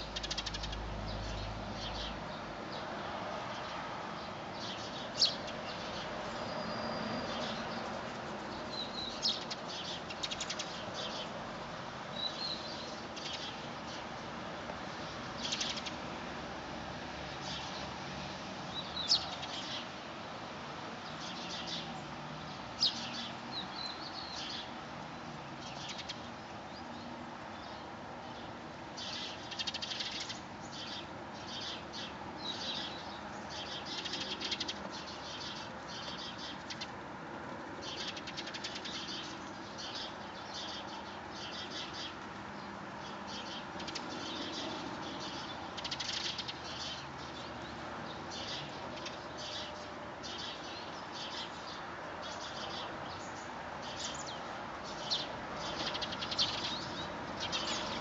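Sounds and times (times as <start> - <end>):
small birds chirping: 0.0 - 2.9, 3.5 - 16.2, 17.3 - 20.0, 20.9 - 37.0, 37.7 - 58.0.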